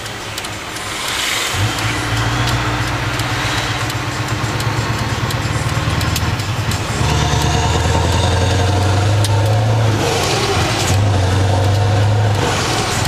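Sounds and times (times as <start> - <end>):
diesel truck engine pulling: 0.0 - 13.0.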